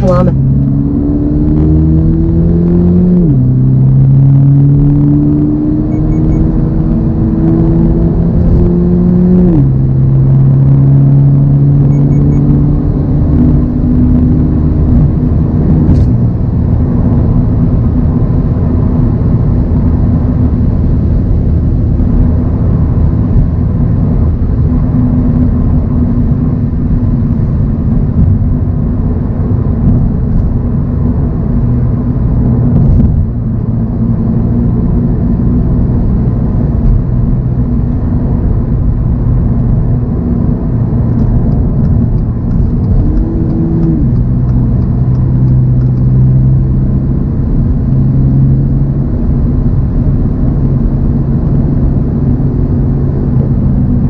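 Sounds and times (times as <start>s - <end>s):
car engine accelerating: 0.0s - 54.0s
road and tyre noise: 0.0s - 54.0s.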